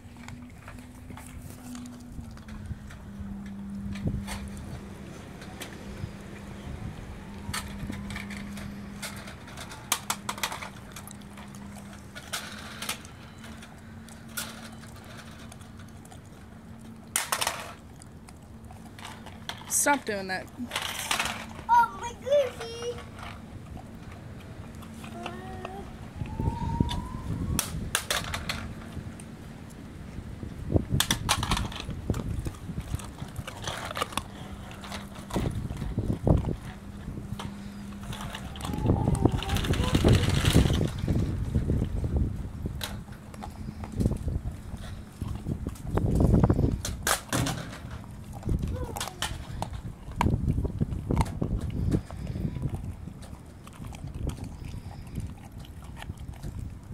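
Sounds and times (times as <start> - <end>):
steady low hum: 0.0 - 22.3, 23.0 - 56.9
dog wet chewing: 0.0 - 26.4, 28.6 - 56.9.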